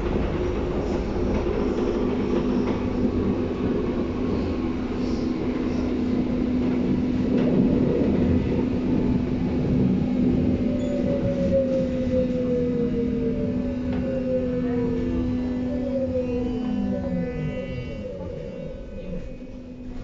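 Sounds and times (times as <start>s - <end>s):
train running gear rumble: 0.0s - 20.0s.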